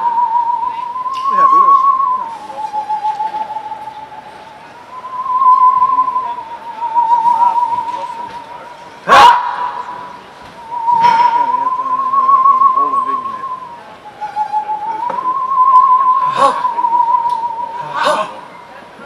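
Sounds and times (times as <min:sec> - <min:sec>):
high whistled note with vibrato: 0:00.0 - 0:18.0.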